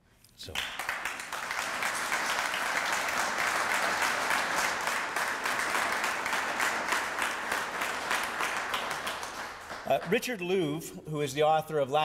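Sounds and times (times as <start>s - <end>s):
audience applauding: 0.6s - 10.7s.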